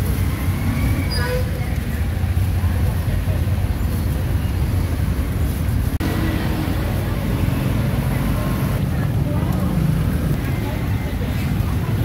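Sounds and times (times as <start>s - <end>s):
passing traffic engine rumble: 0.0s - 12.0s.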